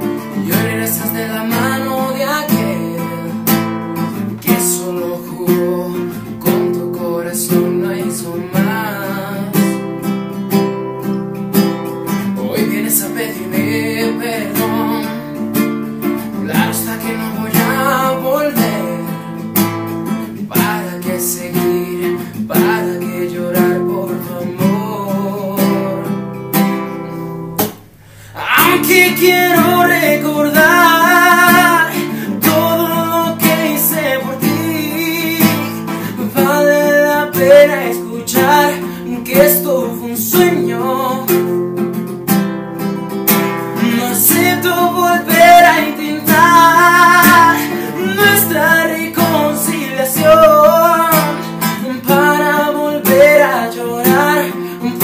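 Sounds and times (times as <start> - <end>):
man singing: 0.0 - 10.1, 12.1 - 27.2, 28.2 - 42.1, 43.3 - 55.0
classical guitar strumming chords: 0.0 - 55.0.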